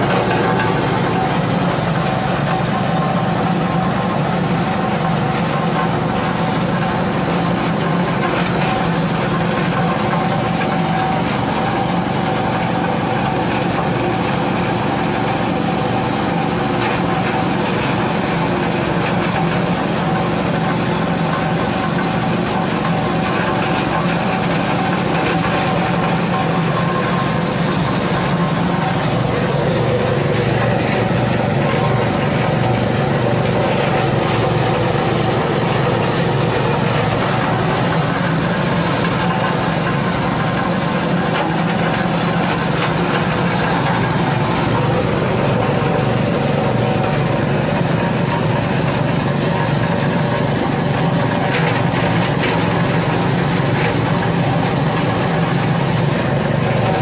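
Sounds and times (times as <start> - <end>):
engine driving grinding mill: 0.0 - 57.0.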